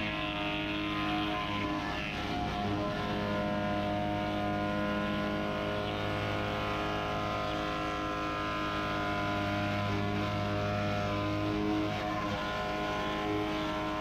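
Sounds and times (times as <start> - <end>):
pressure washer engine running: 0.0 - 14.0.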